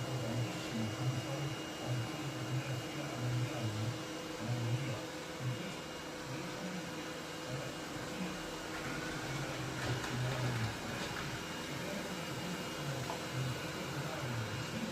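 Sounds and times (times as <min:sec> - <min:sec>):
robot vacuum cleaner humming: 0:00.0 - 0:14.9.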